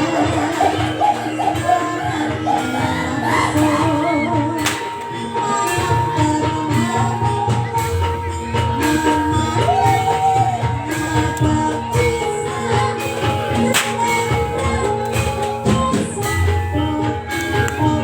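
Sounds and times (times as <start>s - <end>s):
drum and percussion: 0.0s - 18.0s
person singing: 0.0s - 18.0s
wavering melody line: 0.0s - 18.0s.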